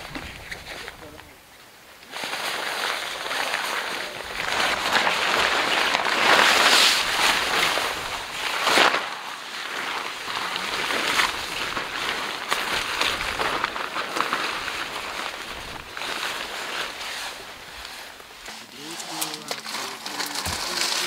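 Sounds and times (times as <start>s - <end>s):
nylon tent fly rustling and flapping: 0.0s - 21.0s.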